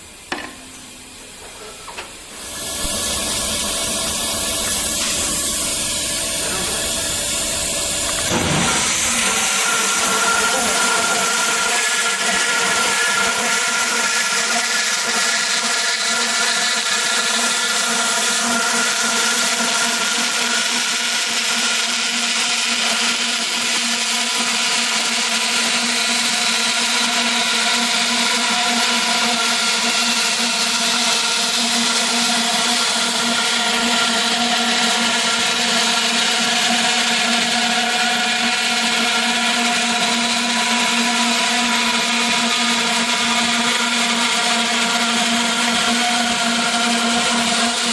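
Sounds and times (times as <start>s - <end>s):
band saw running: 1.6s - 47.9s.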